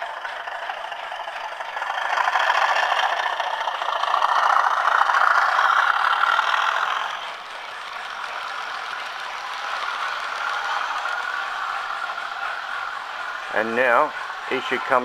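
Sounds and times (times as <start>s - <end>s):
model train wheels rattling: 0.0s - 15.0s.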